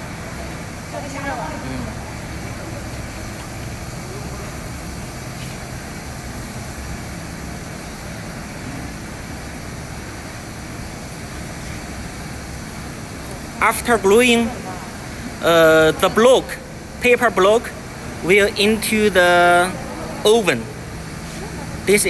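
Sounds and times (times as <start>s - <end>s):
machinery hiss: 0.0s - 22.0s
machinery low hum: 0.0s - 22.0s.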